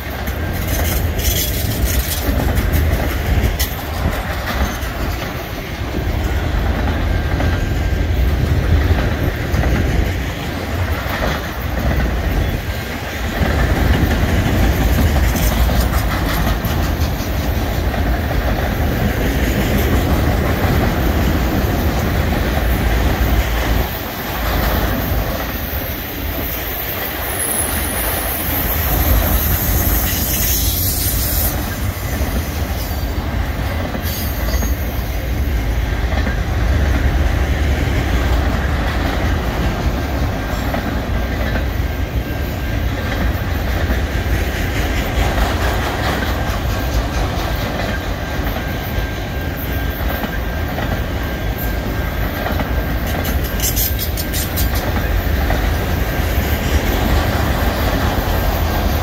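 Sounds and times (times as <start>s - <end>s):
freight train wheels rumbling: 0.0s - 59.0s
wheels clattering over rail joints: 0.0s - 59.0s.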